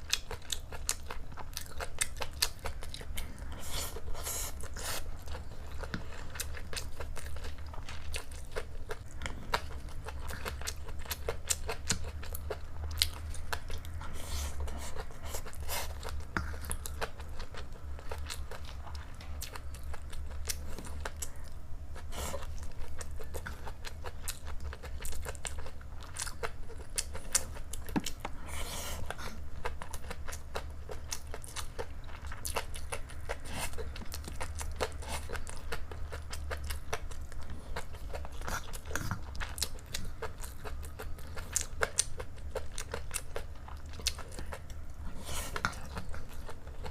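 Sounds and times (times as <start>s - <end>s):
person chewing rice: 0.0s - 46.9s
steady low hum: 0.0s - 46.9s.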